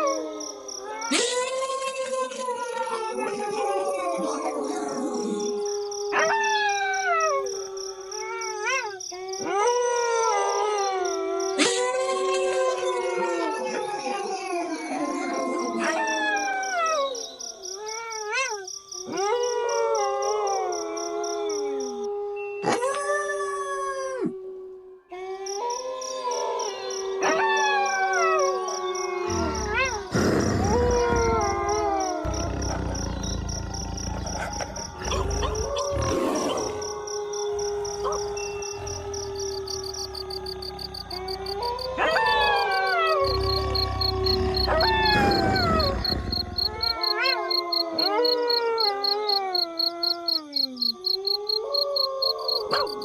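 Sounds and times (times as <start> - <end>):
wolves howling in chorus: 0.0 - 17.6, 18.3 - 53.0.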